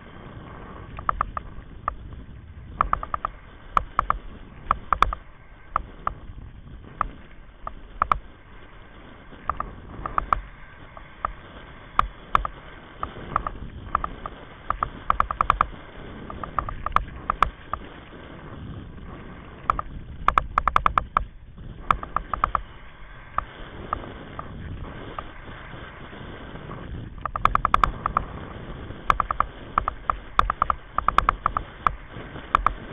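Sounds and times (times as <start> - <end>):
wheels rumbling on sand: 0.0 - 32.9
wind buffeting camera: 0.0 - 32.9.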